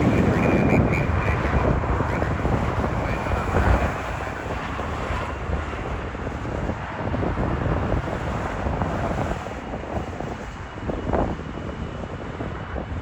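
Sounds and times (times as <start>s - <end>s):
jet aircraft rumble: 0.0s - 13.0s
wind buffeting microphone: 0.0s - 13.0s.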